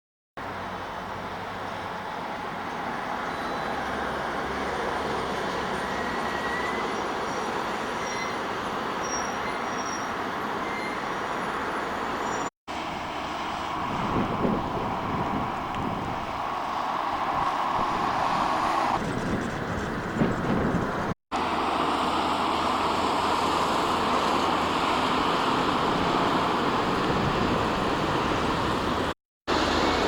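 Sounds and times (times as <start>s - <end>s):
cars passing in steady rumble: 0.4s - 30.0s.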